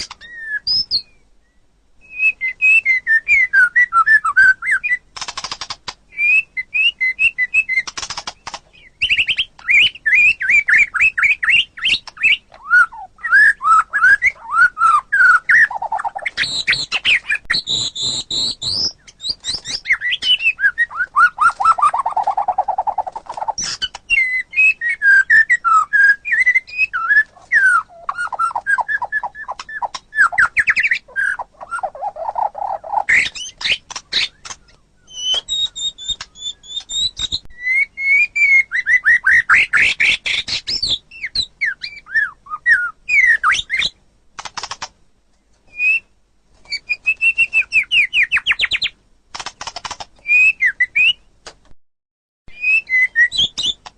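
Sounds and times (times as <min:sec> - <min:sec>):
bird singing varied song: 0:00.0 - 0:51.3, 0:52.5 - 0:53.9.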